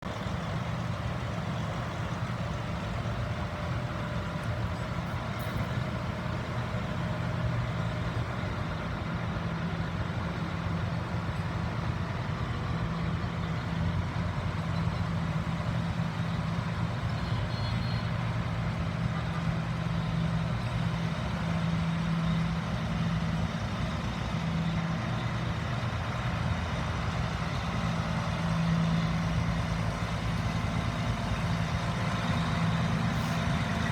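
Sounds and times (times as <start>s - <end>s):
tractor engines humming: 0.0s - 33.9s.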